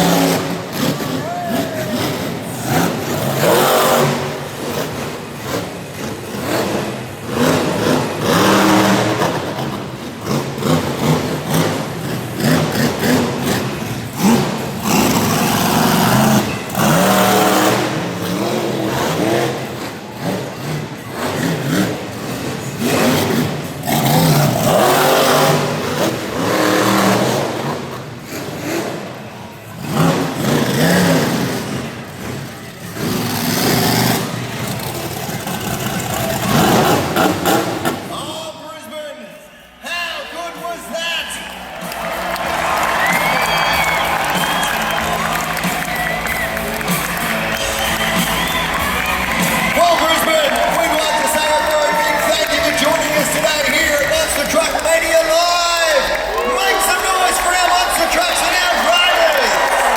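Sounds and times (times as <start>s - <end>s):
monster truck engine revving: 0.0s - 39.8s, 40.8s - 59.9s.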